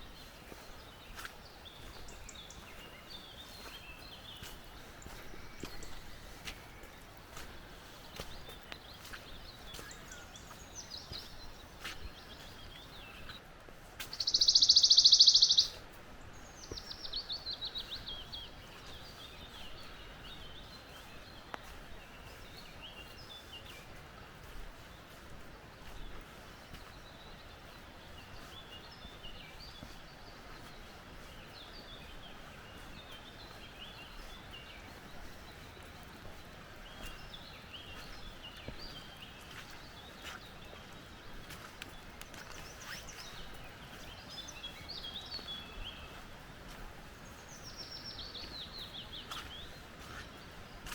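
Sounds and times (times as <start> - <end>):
forest birds calling: 0.0 - 50.9.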